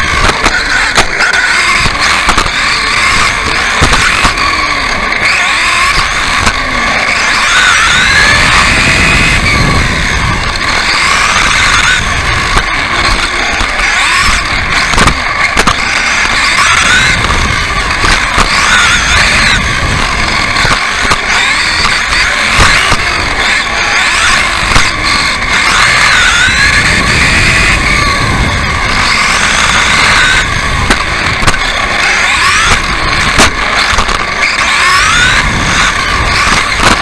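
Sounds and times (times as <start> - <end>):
electric motor whine: 0.0 - 37.0.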